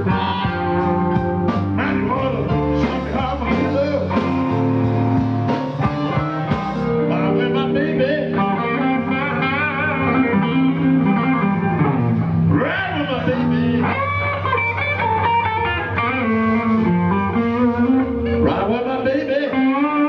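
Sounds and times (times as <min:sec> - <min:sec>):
blues band playing: 0:00.0 - 0:20.0
electric guitar bent lead notes: 0:00.0 - 0:20.0
low bass line: 0:00.0 - 0:20.0.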